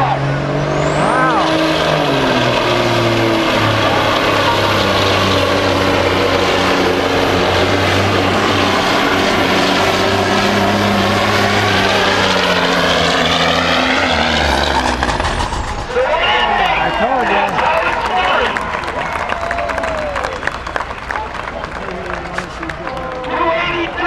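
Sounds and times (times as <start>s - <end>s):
truck engine at full throttle: 0.0s - 24.0s.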